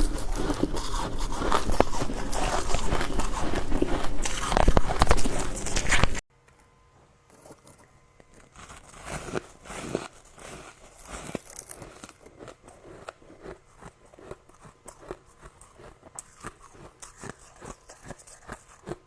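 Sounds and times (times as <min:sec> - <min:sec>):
ice being chewed: 0:00.0 - 0:06.2, 0:07.3 - 0:19.0.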